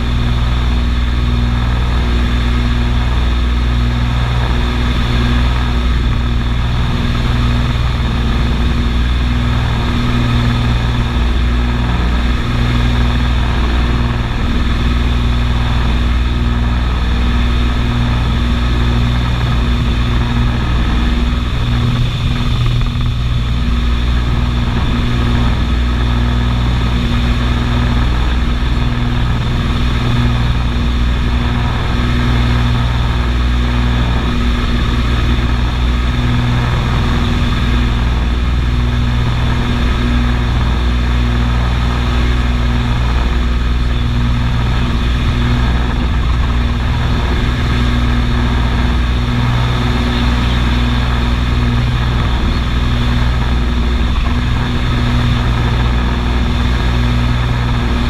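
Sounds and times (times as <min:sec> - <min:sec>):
aircraft engines droning: 0:00.0 - 0:58.0.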